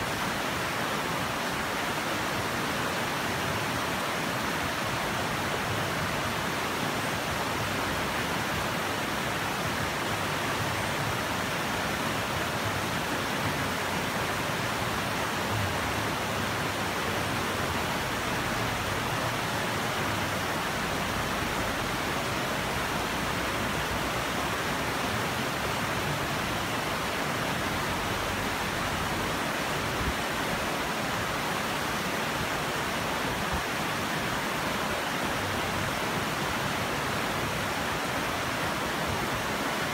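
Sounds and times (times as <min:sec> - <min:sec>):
river rushing over stones: 0:00.0 - 0:39.9.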